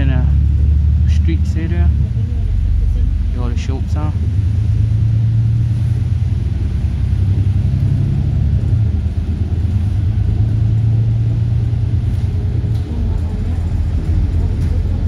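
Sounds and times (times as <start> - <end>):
bus engine drone: 0.0 - 15.0
road rumble: 0.0 - 15.0.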